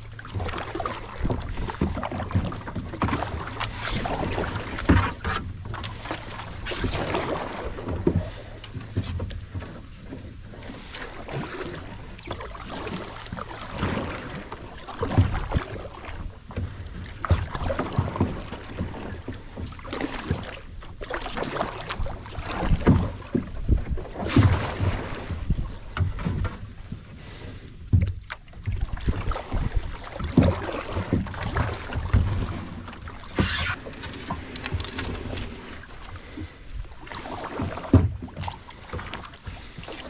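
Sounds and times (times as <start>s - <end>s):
paddle splashing in water: 0.0s - 40.0s
paddle knocking against hull: 0.1s - 27.1s, 27.8s - 40.0s.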